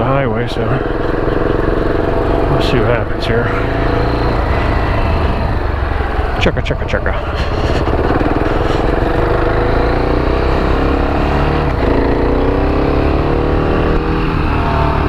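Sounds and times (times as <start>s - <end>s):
motorcycle engine accelerating: 0.0s - 15.0s
steady rushing noise: 1.0s - 14.6s.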